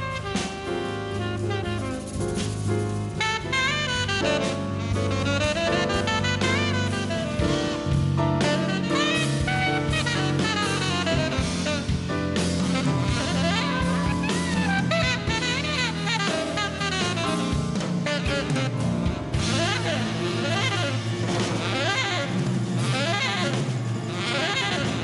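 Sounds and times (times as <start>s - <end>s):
bass: 0.0s - 25.0s
drum kit: 0.0s - 25.0s
horn soloing: 0.0s - 25.0s.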